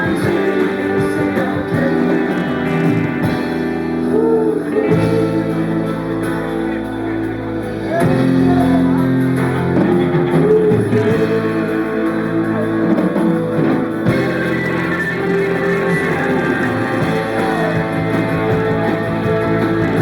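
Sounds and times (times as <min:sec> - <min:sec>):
bending guitar melody: 0:00.0 - 0:20.0
live rock band: 0:00.0 - 0:20.0.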